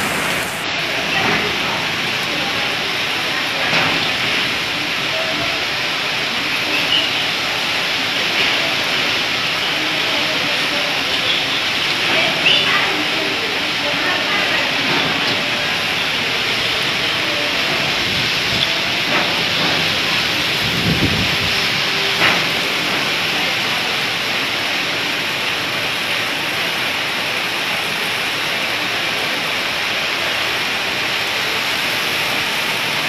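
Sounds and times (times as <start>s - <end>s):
heavy rain on concrete roof: 0.0s - 33.0s.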